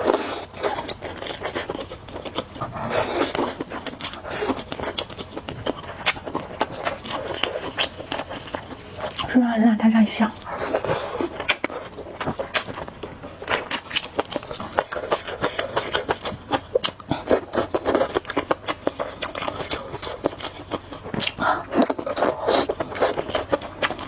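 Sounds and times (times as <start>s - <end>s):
chewing and slurping noodles: 0.0s - 9.4s, 10.1s - 24.0s.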